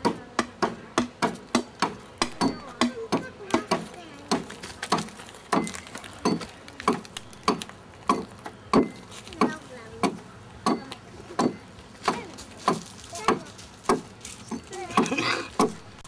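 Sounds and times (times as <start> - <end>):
adze chopping wood: 0.0 - 10.8, 11.4 - 15.9.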